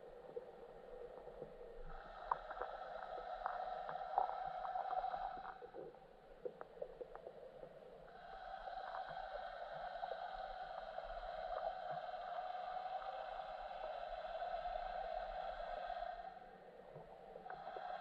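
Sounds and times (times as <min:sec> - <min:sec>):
muffled underwater hum: 0:00.0 - 0:18.0.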